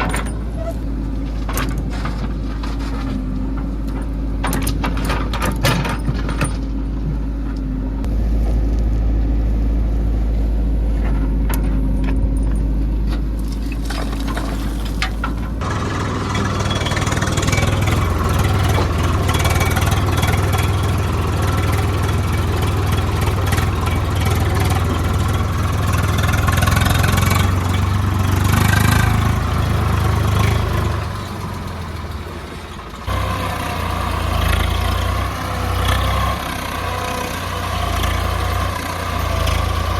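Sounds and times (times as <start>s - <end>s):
heavy diesel engines rumbling: 0.0s - 39.9s.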